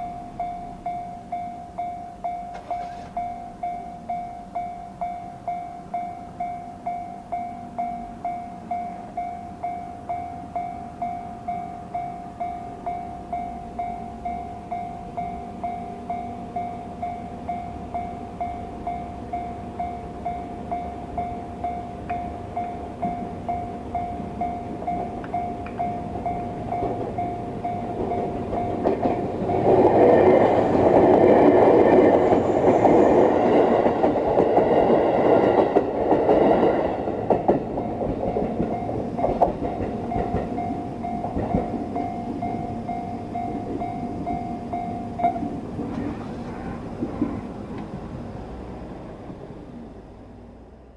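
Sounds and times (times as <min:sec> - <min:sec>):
level crossing warning bell: 0:00.0 - 0:47.5
electric train passing: 0:00.0 - 0:50.9.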